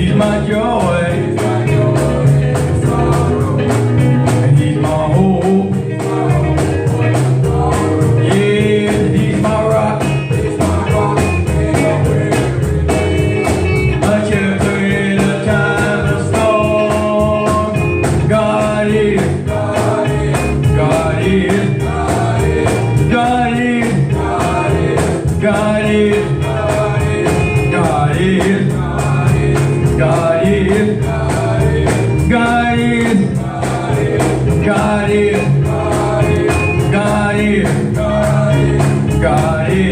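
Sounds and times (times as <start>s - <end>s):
band playing steady beat: 0.0s - 39.9s
person singing gospel song: 0.0s - 39.9s.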